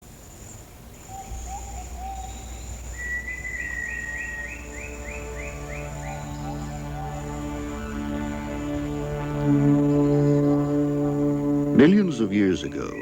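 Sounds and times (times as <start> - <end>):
bird warbling: 1.1 - 13.0
bird whistling rising notes: 1.2 - 13.0
high insect drone: 1.2 - 13.0
low held music tones: 1.2 - 13.0.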